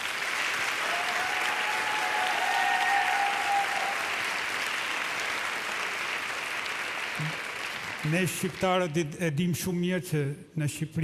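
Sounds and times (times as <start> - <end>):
studio audience applauding: 0.0 - 9.0.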